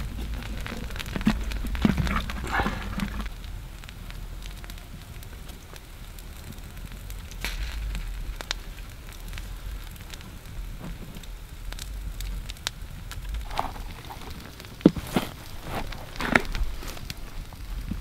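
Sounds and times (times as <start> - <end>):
light crackling and ticking of hands: 0.0 - 18.0.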